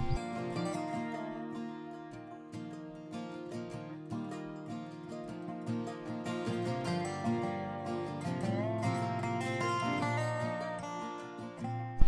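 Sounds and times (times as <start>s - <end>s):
plucked strings music: 0.0s - 12.0s.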